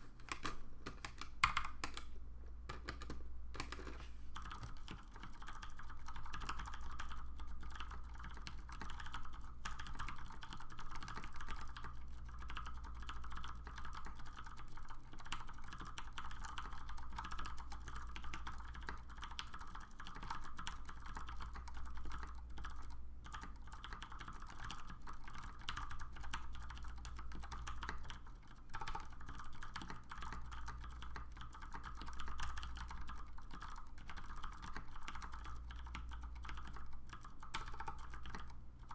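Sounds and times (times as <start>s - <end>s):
fast typing on mechanical keyboard: 0.0s - 2.1s, 2.7s - 38.9s.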